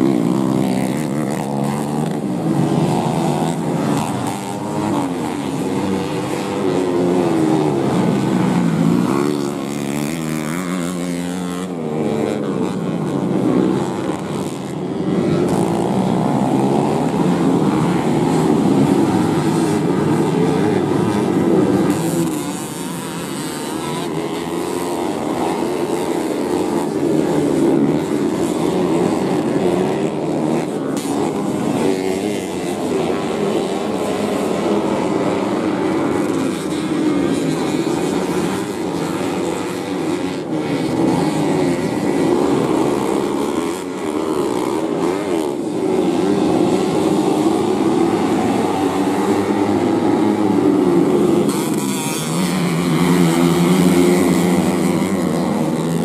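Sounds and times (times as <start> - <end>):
motorcycle engines racing: 0.0 - 56.0.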